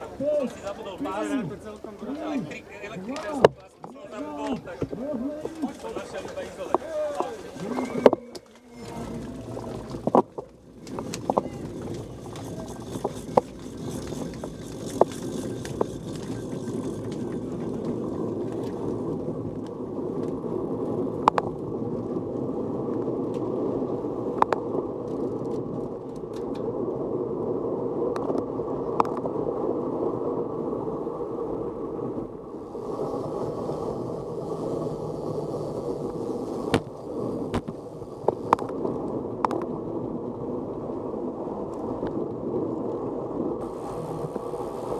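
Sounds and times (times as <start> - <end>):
bicycle tyre and wind noise: 0.0 - 44.9.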